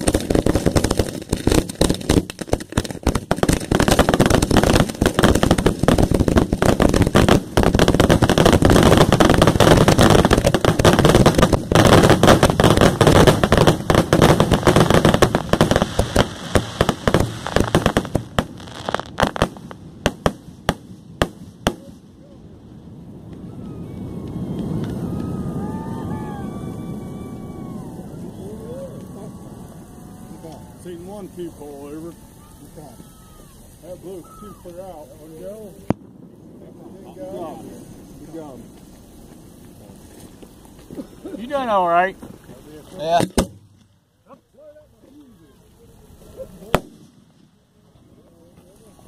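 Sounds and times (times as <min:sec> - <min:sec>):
fireworks launching and bursting: 0:00.0 - 0:49.0.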